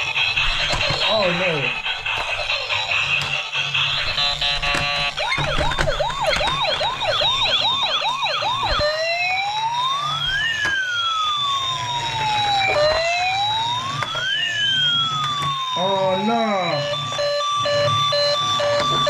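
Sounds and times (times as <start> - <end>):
toy electronic siren: 0.0 - 19.0.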